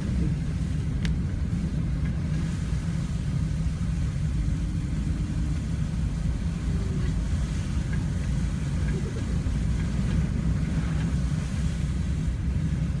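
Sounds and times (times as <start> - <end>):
faint hiss of water: 0.0 - 13.0
low rumble of engine and tyres: 0.0 - 13.0.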